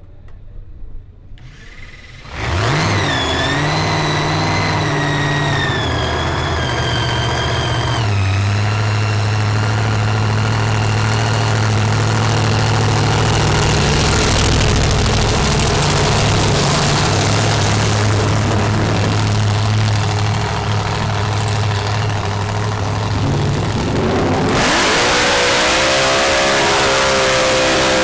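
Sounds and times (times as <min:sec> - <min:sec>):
high blower whine: 0:01.4 - 0:28.0
drag car engine idling: 0:02.1 - 0:28.0.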